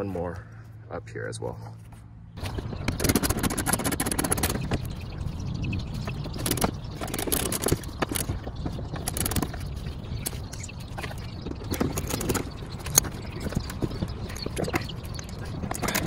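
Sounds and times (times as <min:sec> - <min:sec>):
wind rumbling on microphone: 0:02.4 - 0:16.0.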